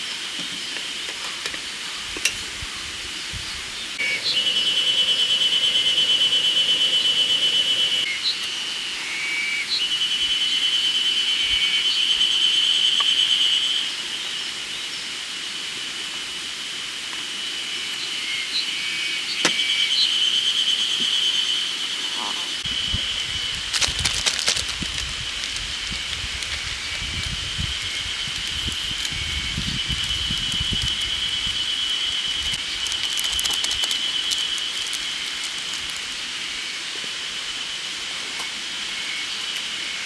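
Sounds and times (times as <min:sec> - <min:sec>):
cicada chorus buzzing: 0:00.0 - 0:40.0
nearby cicada pulsing buzz: 0:01.9 - 0:15.8, 0:16.4 - 0:40.0.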